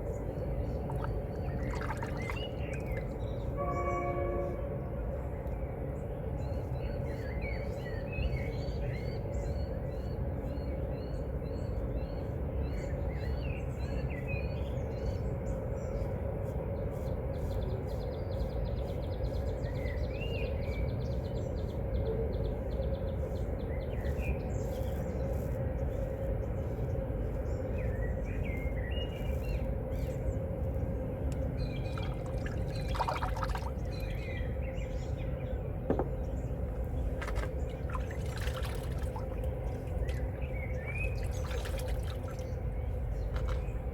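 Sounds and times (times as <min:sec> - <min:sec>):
low background rumble: 0:00.0 - 0:43.9.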